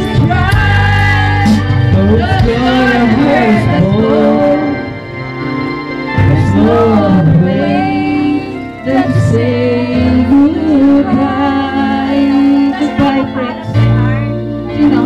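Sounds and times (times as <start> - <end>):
woman singing: 0.0 - 4.8, 6.2 - 13.6, 14.7 - 15.0
held accompaniment chords: 0.0 - 15.0.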